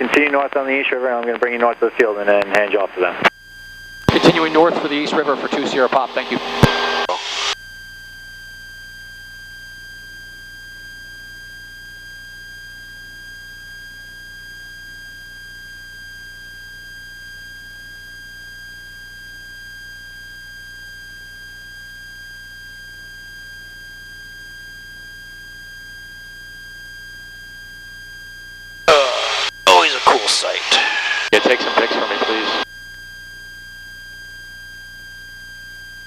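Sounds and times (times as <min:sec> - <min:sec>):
high-pitched electronic whine: 0:02.5 - 0:18.9, 0:19.5 - 0:36.0.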